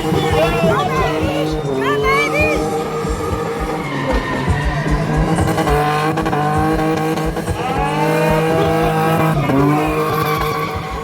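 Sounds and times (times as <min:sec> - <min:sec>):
car engine revving hard: 0:00.0 - 0:11.0
tyres squealing: 0:00.0 - 0:11.0.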